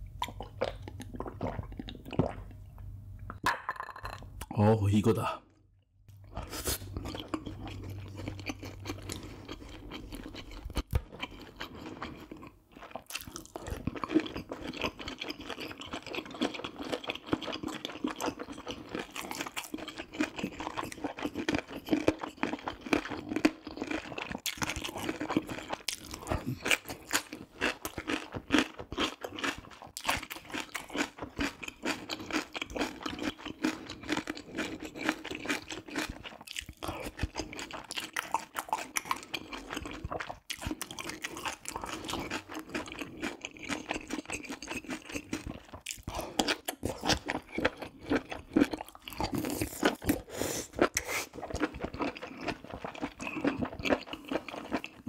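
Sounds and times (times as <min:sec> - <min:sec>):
person chewing food: 0:00.0 - 0:03.4, 0:06.1 - 0:55.0.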